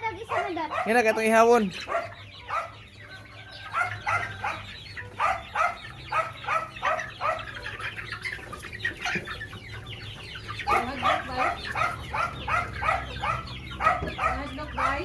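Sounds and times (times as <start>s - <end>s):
chicken clucking: 0.0s - 15.0s.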